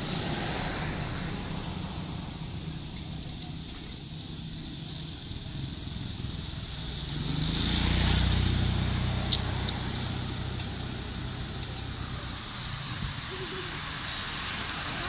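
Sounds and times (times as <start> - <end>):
vehicle engine driving past: 0.0 - 3.3, 4.7 - 15.0.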